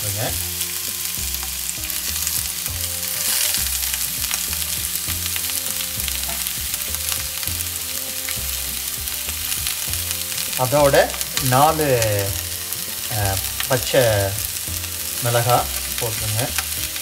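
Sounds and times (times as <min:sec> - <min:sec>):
background music with low notes: 0:00.0 - 0:17.0
peppers sizzling in hot oil: 0:00.0 - 0:17.0.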